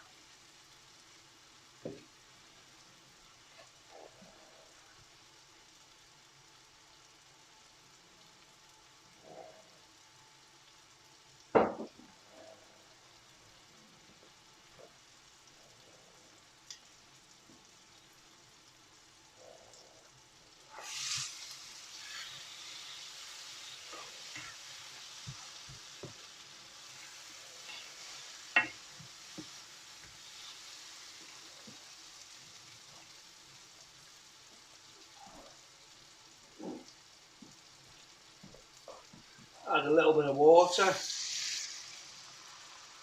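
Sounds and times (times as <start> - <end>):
spices sizzling in oil: 0.0 - 43.0.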